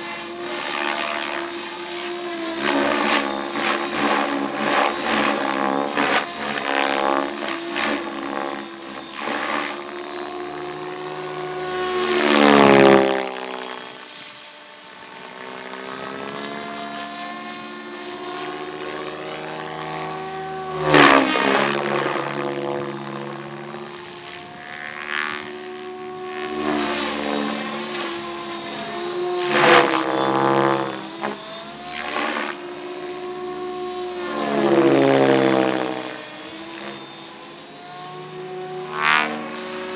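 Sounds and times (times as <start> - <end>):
high motor whine: 0.0 - 39.9
rc helicopter rotor buzzing: 0.0 - 39.9.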